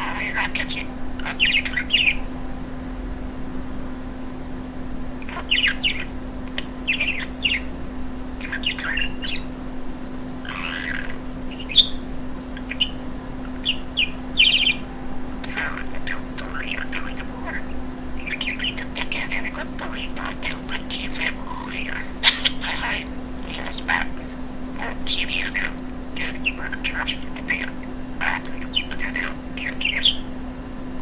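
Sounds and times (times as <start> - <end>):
budgerigar chirping: 0.0 - 2.3, 5.2 - 7.7, 8.4 - 9.5, 10.4 - 30.3
steady low hum: 0.0 - 31.0.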